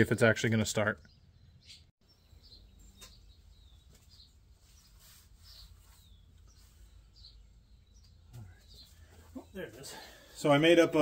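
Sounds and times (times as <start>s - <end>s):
faint bird chirps: 0.9s - 10.3s.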